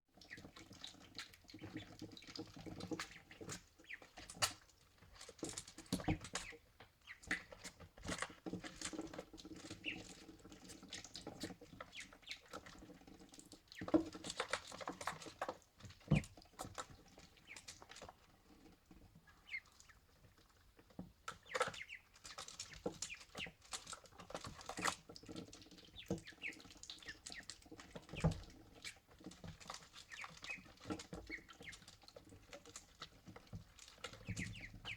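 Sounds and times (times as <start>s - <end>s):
ducklings' bills clicking in water: 0.1s - 34.9s
ducklings peeping: 0.2s - 34.9s.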